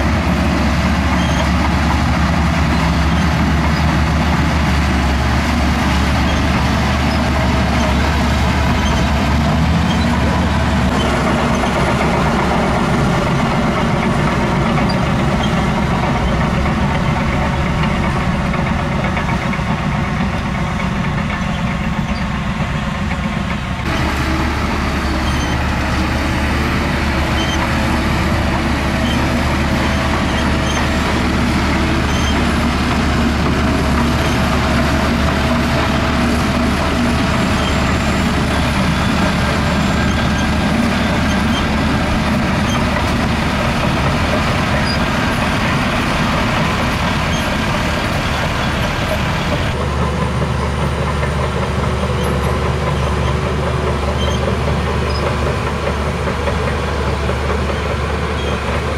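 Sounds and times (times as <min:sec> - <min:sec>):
bulldozer diesel engine: 0:00.0 - 0:58.9.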